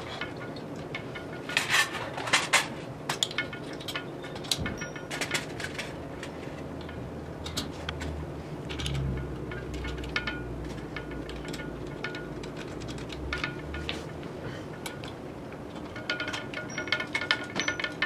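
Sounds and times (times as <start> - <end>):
small metal clicks: 0.2 - 13.9, 14.7 - 18.0.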